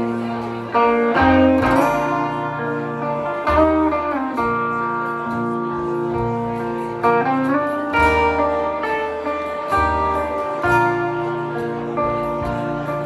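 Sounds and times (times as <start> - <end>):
guitar chords ringing: 0.0 - 13.0.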